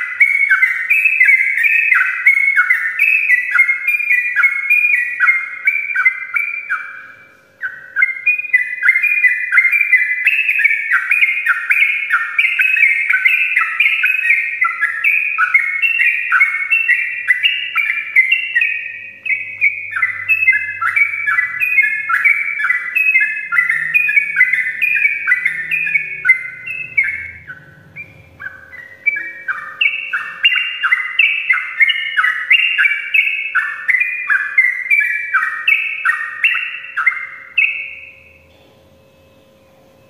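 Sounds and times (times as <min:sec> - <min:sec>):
bird singing whistled notes: 0:00.0 - 0:40.0.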